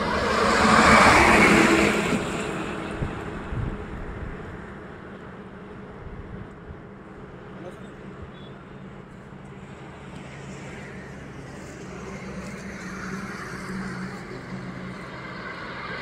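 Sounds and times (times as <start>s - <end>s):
car approaching: 0.0s - 16.0s.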